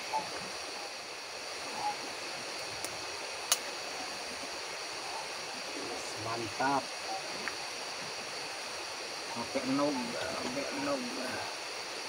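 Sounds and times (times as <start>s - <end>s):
frogs calling: 0.0s - 12.0s
large river rushing: 0.0s - 12.0s.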